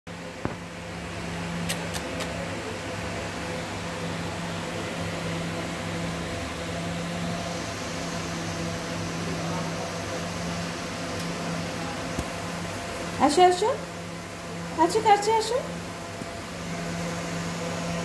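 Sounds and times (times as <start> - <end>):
machine hum: 0.1 - 18.0.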